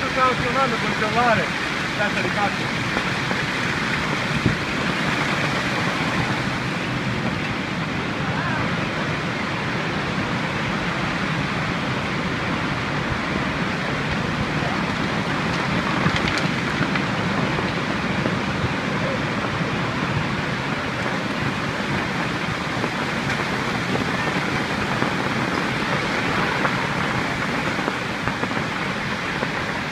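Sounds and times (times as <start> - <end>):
hail and rain hitting ground: 0.0 - 29.9.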